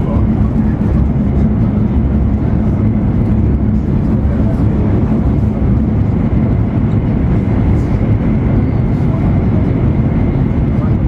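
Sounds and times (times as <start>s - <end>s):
faint constant hum: 0.0s - 11.0s
train wheels rumbling on rail: 0.0s - 11.0s.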